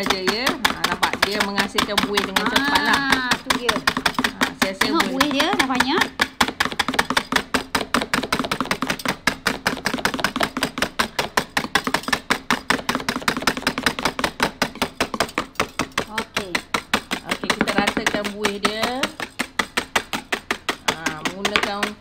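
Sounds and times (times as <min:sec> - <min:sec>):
whisk clicking against a tray: 0:00.0 - 0:22.0.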